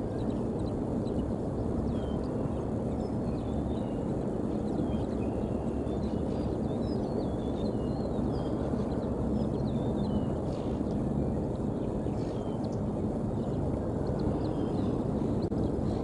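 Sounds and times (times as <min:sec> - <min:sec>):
small birds whistling calls: 0:00.0 - 0:16.0
steady low rumble: 0:00.0 - 0:16.0.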